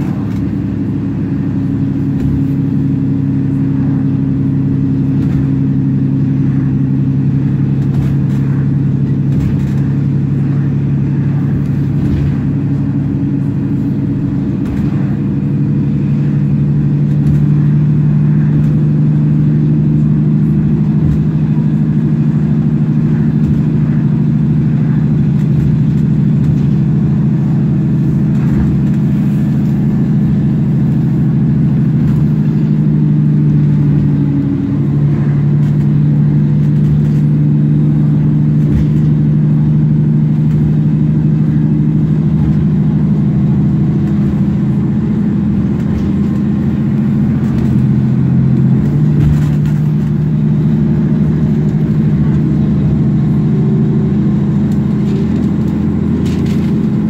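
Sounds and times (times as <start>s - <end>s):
diesel bus engine drone: 0.0s - 57.0s.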